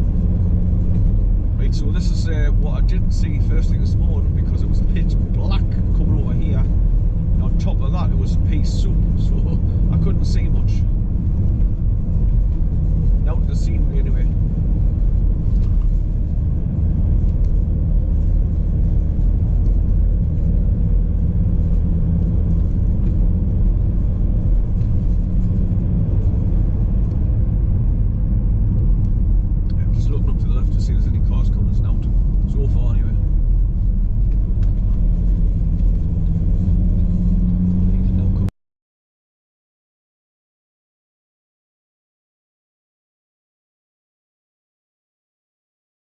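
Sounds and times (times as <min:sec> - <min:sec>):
car engine and tyre rumble: 0:00.0 - 0:38.5.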